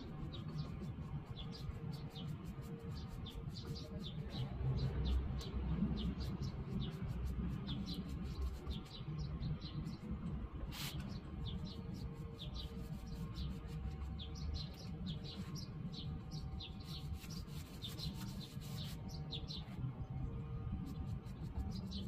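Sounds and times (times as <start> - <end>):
low background rumble: 0.0 - 22.0
small birds chirping: 0.0 - 22.0.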